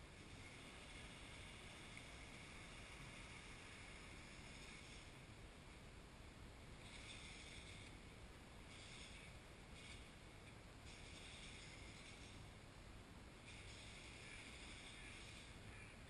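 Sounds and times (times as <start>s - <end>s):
faint outdoor hiss: 0.0s - 16.0s
higher pulsing hiss: 0.0s - 16.0s.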